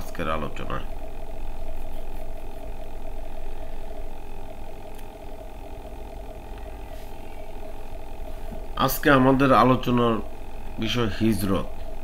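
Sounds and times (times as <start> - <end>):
mid-pitched drone: 0.0 - 12.0.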